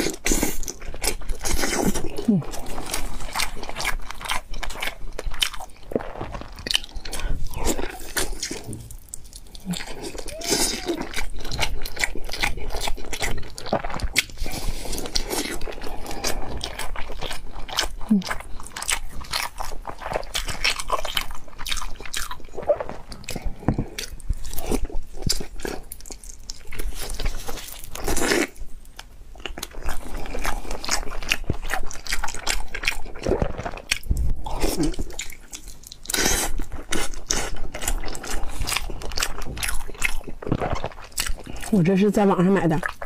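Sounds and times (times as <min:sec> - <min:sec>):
wet chewing mouth sounds: 0:00.0 - 0:43.0.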